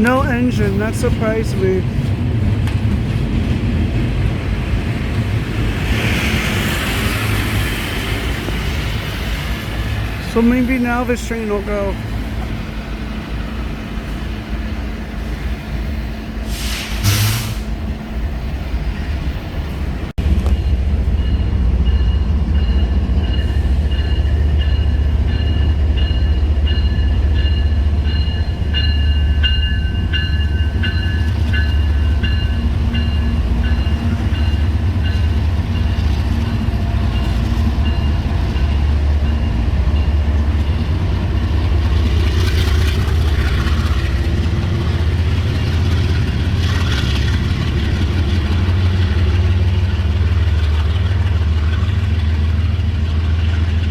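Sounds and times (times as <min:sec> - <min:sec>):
freight train rumbling: 0:00.0 - 0:53.9.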